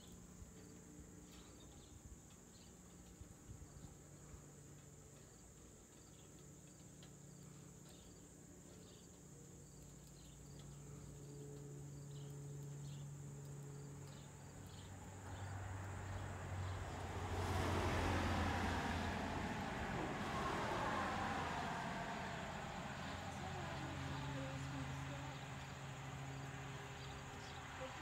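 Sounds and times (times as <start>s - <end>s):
faint low hum: 0.0s - 28.0s
car approaching on road: 4.7s - 28.0s.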